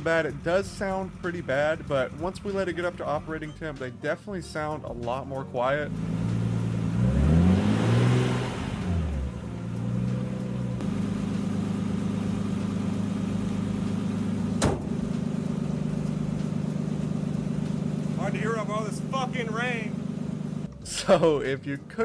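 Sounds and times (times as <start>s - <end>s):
car engine revving and idling: 0.0s - 3.8s, 5.6s - 22.0s.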